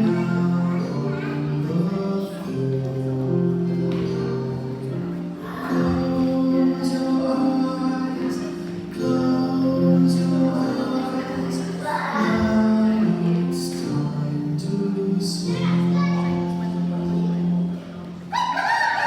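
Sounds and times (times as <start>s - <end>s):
song with held sung notes: 0.0s - 19.0s.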